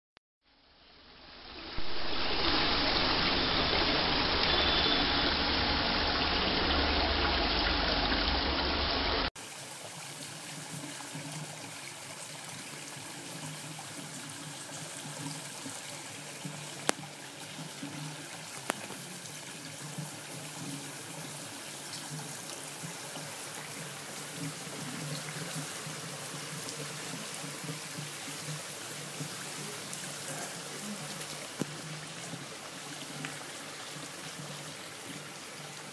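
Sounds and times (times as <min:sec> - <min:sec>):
quiet fountain trickle: 0:00.5 - 0:35.9
fountain water splashing: 0:01.4 - 0:35.9.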